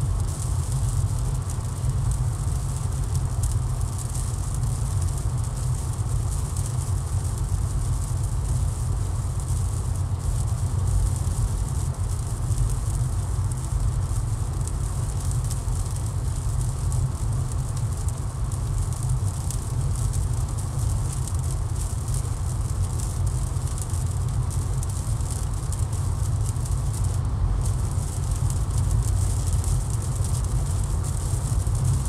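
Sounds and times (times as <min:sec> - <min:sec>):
raindrops ticking on windscreen: 0:00.0 - 0:32.0.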